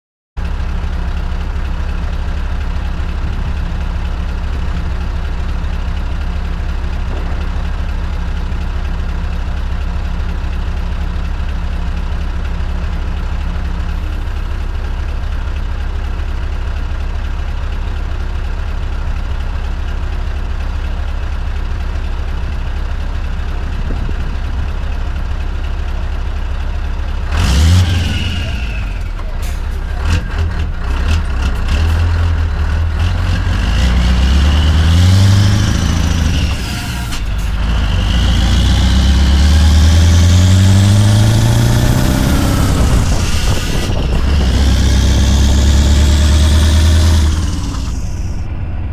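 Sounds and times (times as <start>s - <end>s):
truck engine droning: 0.4s - 48.9s.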